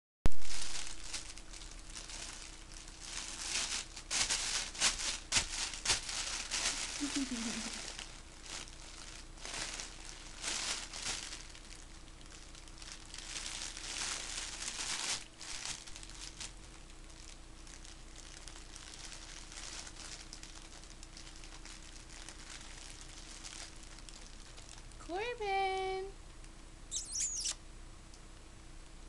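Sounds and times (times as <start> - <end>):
faint steady hum: 0.3 - 29.0.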